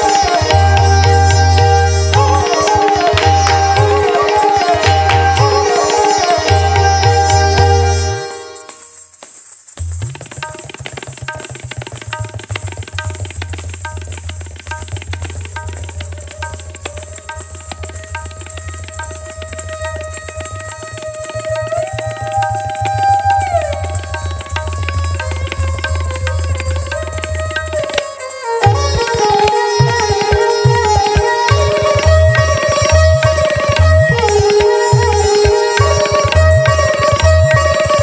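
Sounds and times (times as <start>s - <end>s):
rapid tabla strokes: 0.0s - 38.0s.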